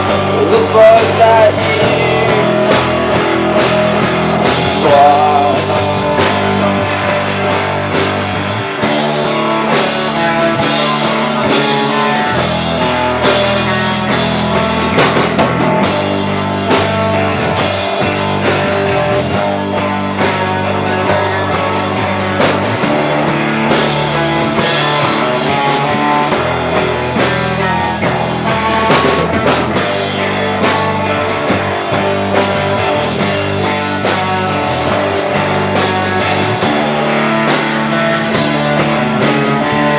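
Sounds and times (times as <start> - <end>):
rock band playing instrumental: 0.0 - 39.9.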